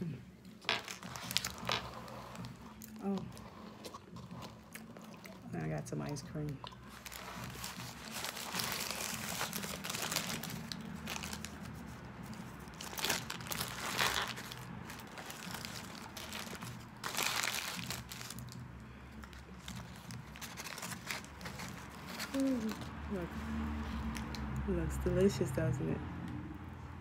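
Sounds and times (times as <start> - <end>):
paper wrapper crinkling: 0.6 - 23.3.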